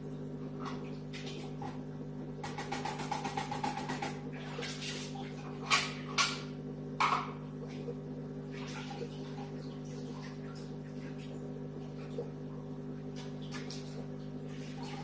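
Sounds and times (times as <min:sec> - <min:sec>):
aquarium filter pump humming: 0:00.0 - 0:15.0.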